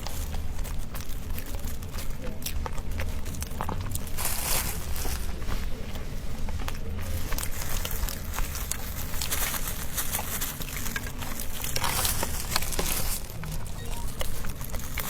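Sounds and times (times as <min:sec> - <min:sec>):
person chewing pastry: 0:00.0 - 0:15.0.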